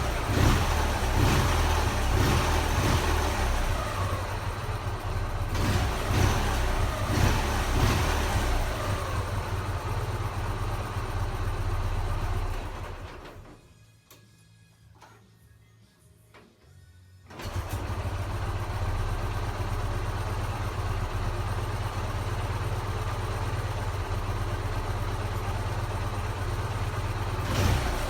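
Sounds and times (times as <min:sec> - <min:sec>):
motorcycle engine running: 0:00.0 - 0:13.1, 0:17.4 - 0:28.0.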